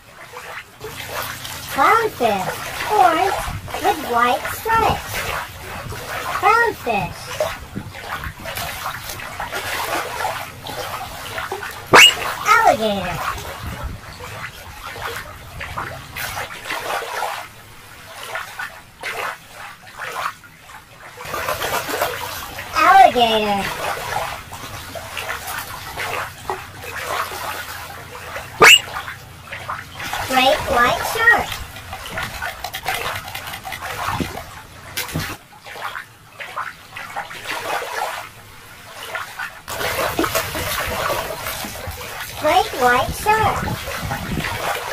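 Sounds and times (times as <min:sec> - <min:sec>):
shallow water sloshing: 0:00.0 - 0:44.9.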